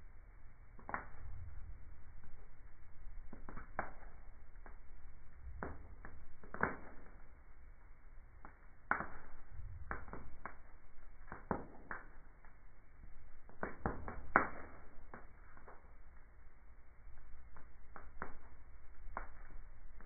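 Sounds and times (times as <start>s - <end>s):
slowed wood fire crackling: 0.0s - 20.0s.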